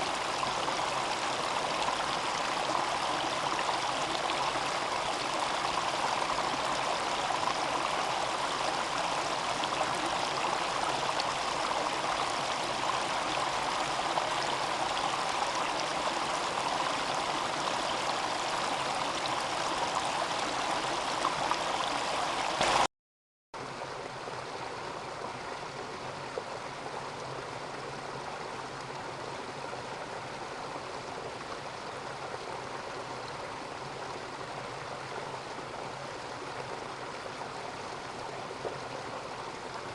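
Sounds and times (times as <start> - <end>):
mountain stream flowing: 0.0 - 22.9, 23.6 - 39.9.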